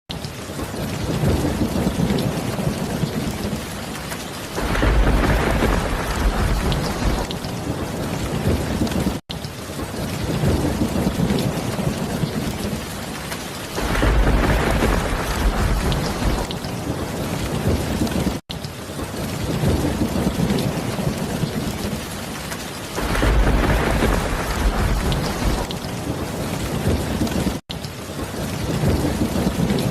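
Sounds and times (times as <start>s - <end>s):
heavy rain: 0.1s - 29.9s
thunder rumbling: 0.4s - 27.6s, 28.2s - 29.9s.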